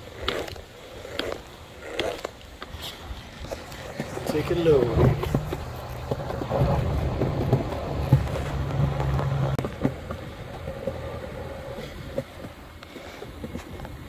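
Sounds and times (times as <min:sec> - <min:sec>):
skateboard wheels rolling on concrete: 0:00.0 - 0:14.0
wheels clicking over floor joints: 0:00.0 - 0:14.0.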